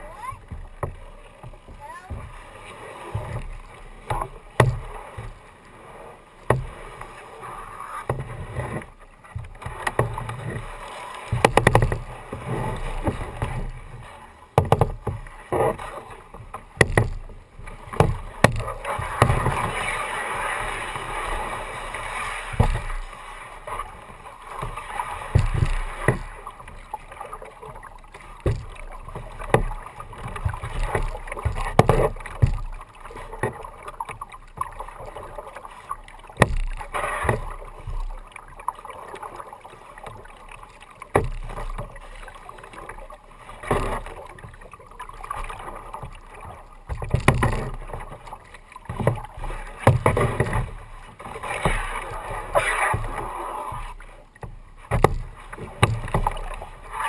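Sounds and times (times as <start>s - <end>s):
paddle splashing in water: 0.0s - 57.0s.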